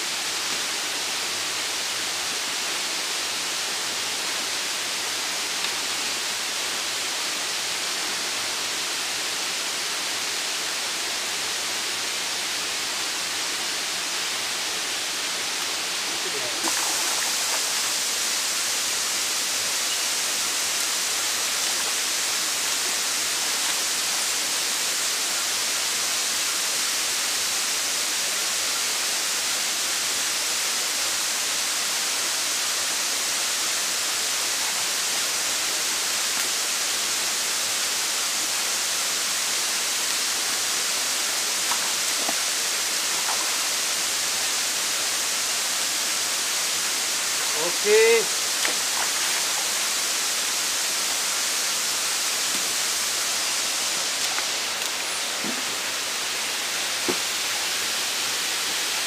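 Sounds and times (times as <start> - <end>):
stream and small waterfall rushing: 0.0 - 59.0.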